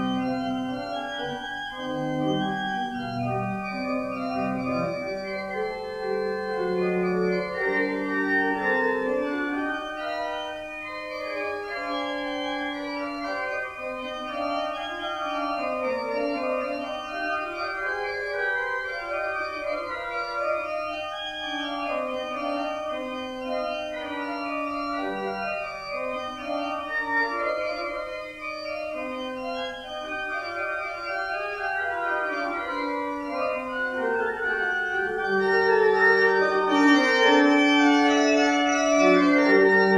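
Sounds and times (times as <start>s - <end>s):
organ playing hymn chords: 0.0s - 39.9s.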